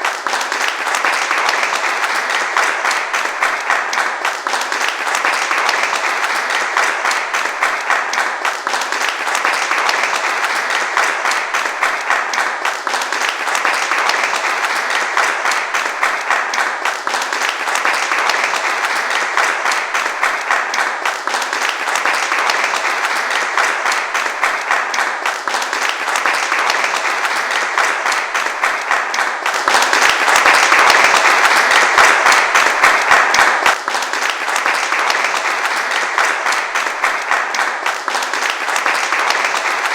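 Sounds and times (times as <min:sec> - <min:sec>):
large crowd applauding: 0:00.0 - 0:39.9.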